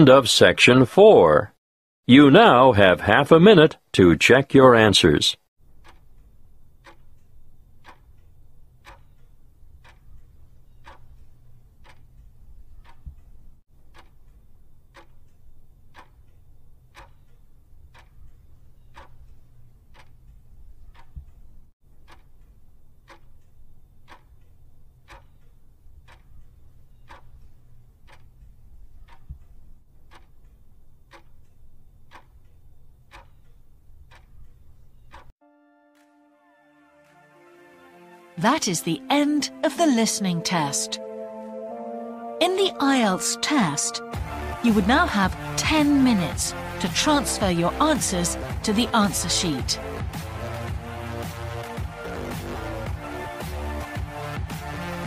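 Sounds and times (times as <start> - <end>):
clock ticking: 5.6 - 35.3, 38.4 - 41.1, 42.4 - 55.0.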